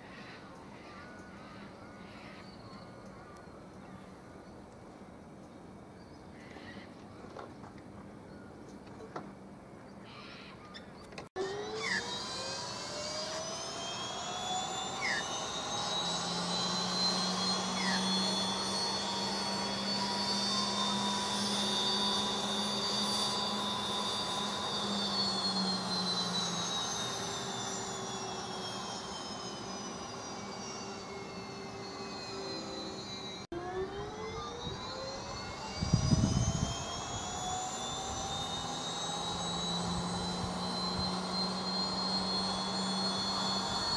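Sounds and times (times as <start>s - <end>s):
turbine engine whine: 0.0s - 43.9s.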